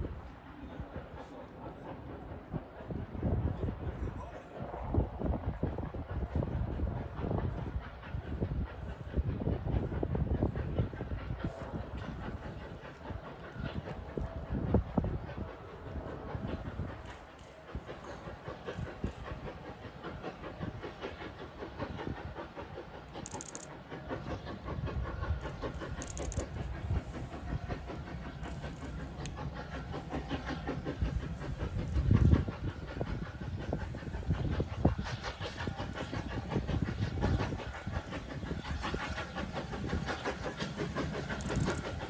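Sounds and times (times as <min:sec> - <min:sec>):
steam locomotive exhaust beats: 0:00.0 - 0:42.0
steam hiss: 0:04.6 - 0:42.0
wagons rattling on rails: 0:05.5 - 0:42.0.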